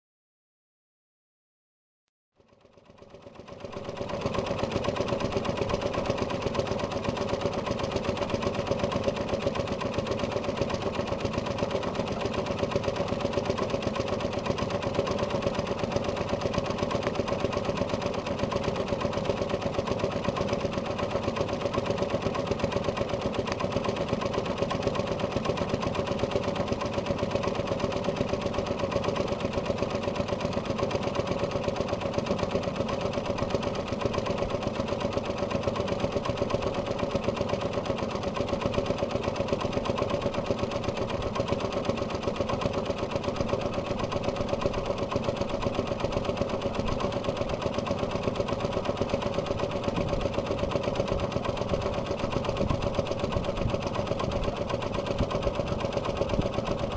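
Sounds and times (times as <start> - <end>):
marine engine idling: 2.6 - 56.9.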